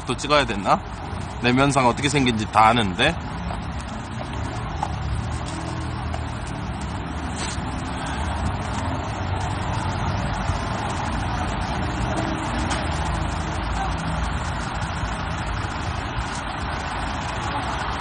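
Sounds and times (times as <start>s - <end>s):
passing traffic hum: 0.0s - 18.0s.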